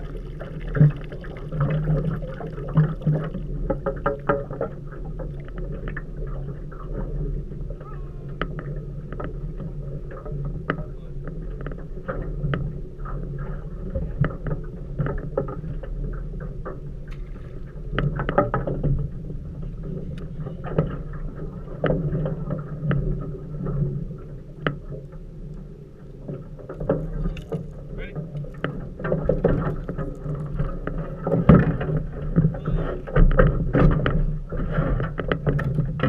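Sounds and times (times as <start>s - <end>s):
waves slapping metal hull: 0.0s - 36.0s.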